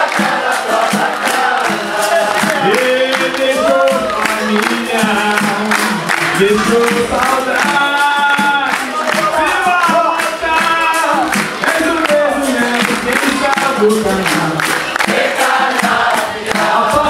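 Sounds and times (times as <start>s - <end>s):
berimbaus and hand drums: 0.0s - 17.0s
group singing: 0.0s - 17.0s
hand-clapping: 0.0s - 17.0s.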